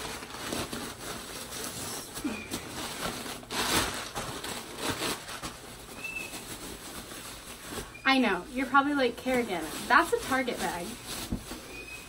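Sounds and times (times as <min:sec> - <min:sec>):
rustling and handling noises: 0:00.0 - 0:12.0.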